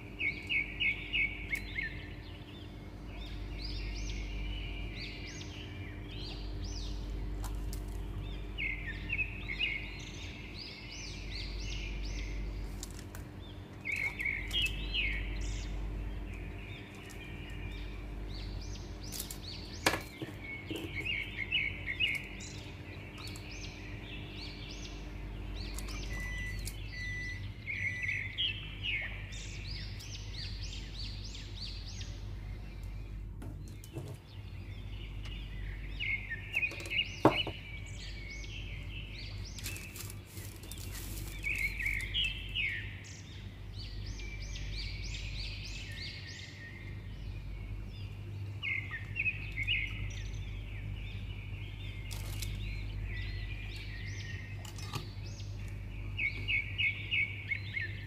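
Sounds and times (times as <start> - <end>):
low hum: 0.0 - 58.0
small birds chirping: 0.0 - 58.0.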